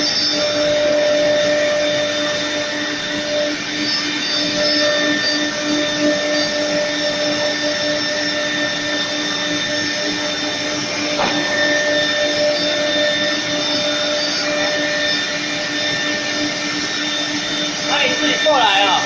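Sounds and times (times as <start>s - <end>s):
router spindle motor whining: 0.0s - 19.0s.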